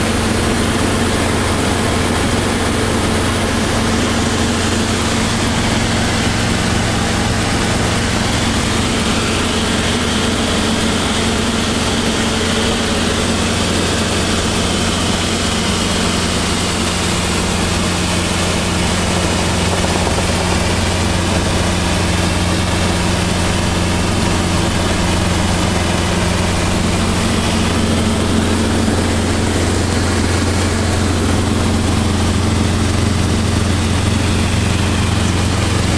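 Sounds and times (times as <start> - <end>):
helicopter engine and rotors: 0.0 - 35.9.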